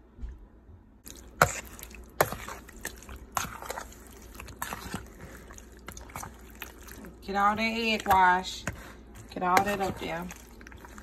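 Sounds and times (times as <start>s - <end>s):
wet sloshing and squishing: 1.0s - 11.0s.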